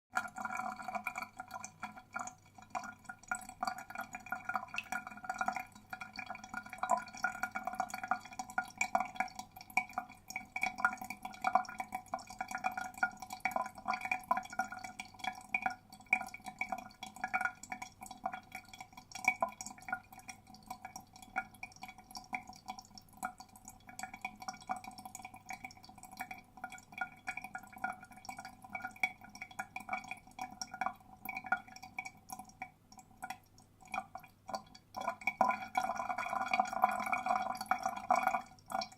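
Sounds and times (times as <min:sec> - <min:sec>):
water draining and gurgling: 0:00.1 - 0:38.9.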